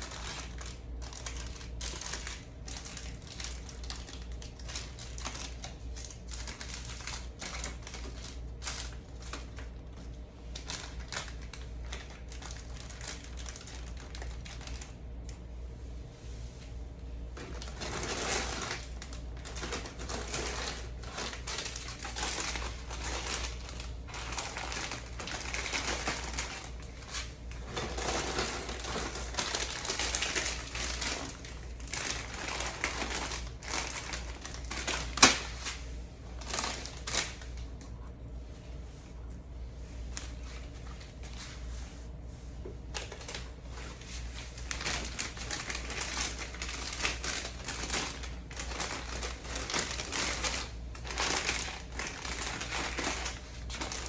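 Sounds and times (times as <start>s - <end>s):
plastic wrappers crinkling: 0.0s - 15.4s, 17.2s - 38.1s, 42.8s - 54.0s
steady low hum: 0.0s - 54.0s.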